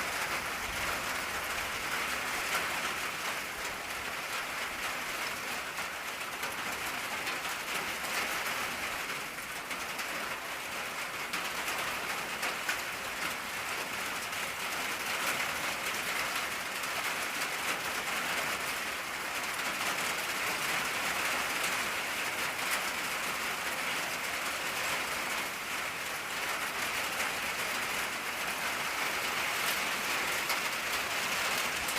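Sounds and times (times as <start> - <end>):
rain on a tin roof: 0.0 - 31.9.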